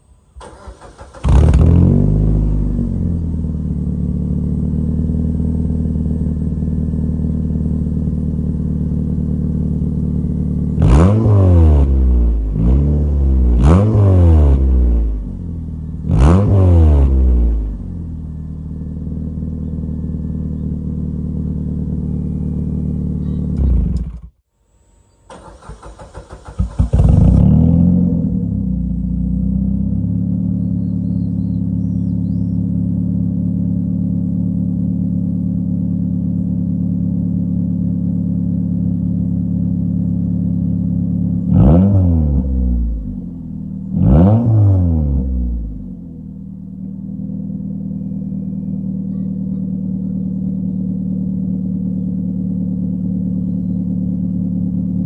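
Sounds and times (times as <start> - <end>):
car engine starting and revving: 0.4 - 24.4, 25.3 - 55.0.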